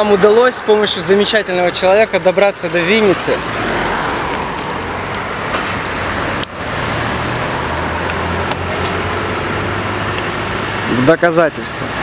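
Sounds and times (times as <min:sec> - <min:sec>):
engine drone with road rumble: 0:00.0 - 0:12.0.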